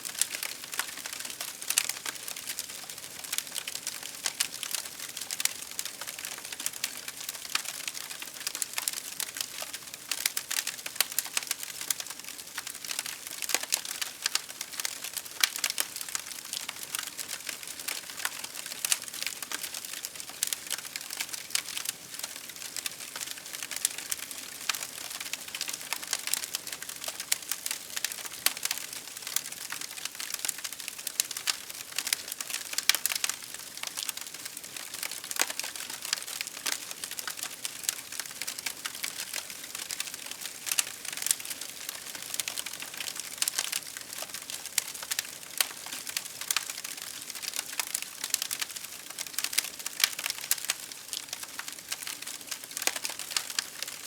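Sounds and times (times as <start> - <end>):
wood fire crackling and popping: 0.1 - 54.0.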